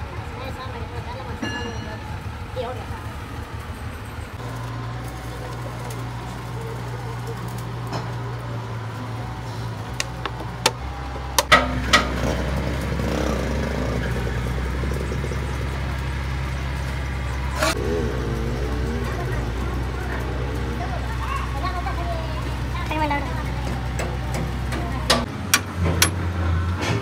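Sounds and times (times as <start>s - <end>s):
low machinery hum: 0.0s - 27.0s.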